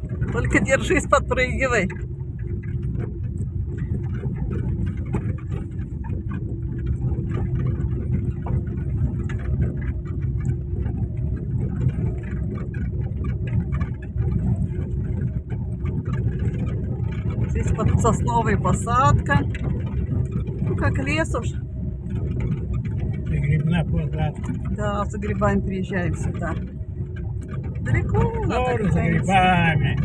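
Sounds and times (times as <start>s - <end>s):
car engine hum: 0.0s - 30.0s
knocks and rattles: 0.0s - 30.0s
low road rumble: 0.0s - 30.0s.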